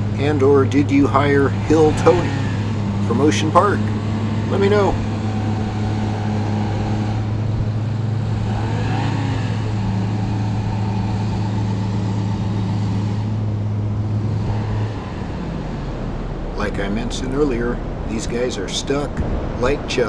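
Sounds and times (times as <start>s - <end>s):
truck engines at high revs: 0.0s - 20.0s.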